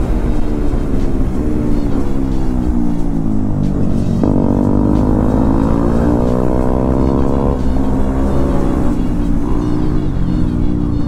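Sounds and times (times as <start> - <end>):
motorcycle engine revving: 0.0 - 11.0
wind and road rumble: 0.0 - 11.0.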